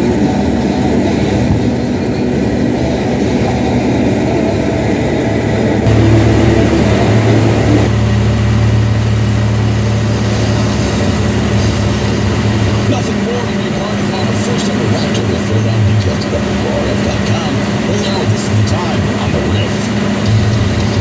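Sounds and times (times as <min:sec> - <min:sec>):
tractor diesel engine droning: 0:00.0 - 0:21.0.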